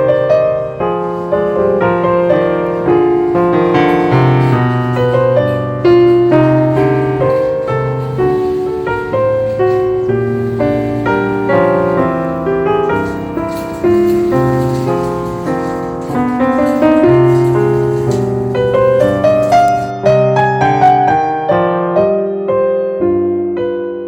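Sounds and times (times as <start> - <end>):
piano music: 0.0 - 22.3.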